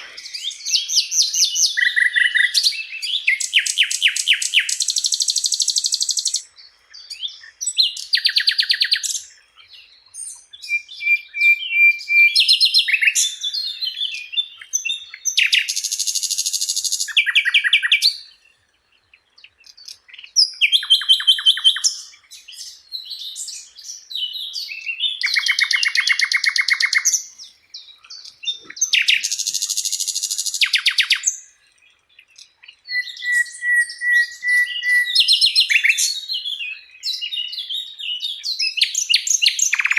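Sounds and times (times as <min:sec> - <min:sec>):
flycatcher singing trills: 0:00.0 - 0:18.5, 0:19.1 - 0:39.9.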